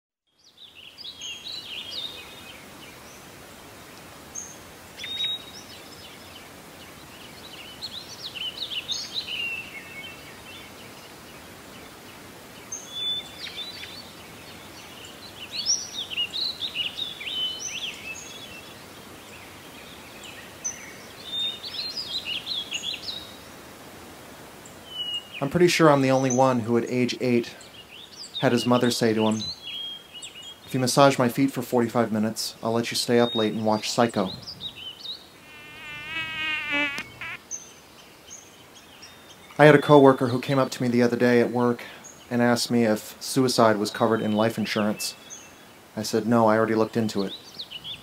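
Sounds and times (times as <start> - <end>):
songbirds singing: 0.3 - 3.3, 4.3 - 23.5, 24.6 - 31.1, 32.6 - 42.9, 43.6 - 48.0
steady background hiss: 0.4 - 48.0.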